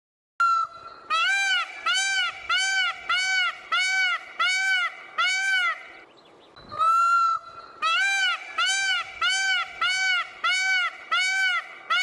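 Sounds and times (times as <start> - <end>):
peacock calling: 0.4 - 12.0.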